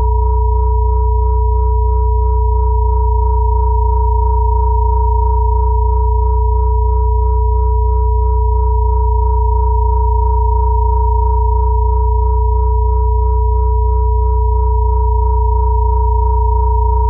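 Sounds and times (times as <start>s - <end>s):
high sine tone: 0.0s - 17.0s
low hum: 0.0s - 17.0s
middle sine tone: 0.0s - 17.0s.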